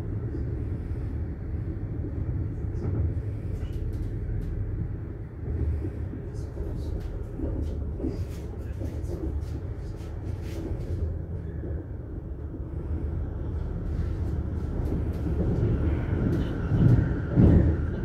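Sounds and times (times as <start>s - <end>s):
train carriage rumble on rails: 0.0s - 18.0s.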